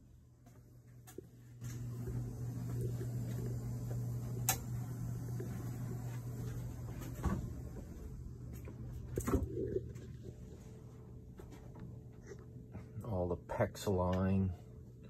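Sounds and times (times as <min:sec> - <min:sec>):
low electric machinery hum: 0:00.0 - 0:15.0.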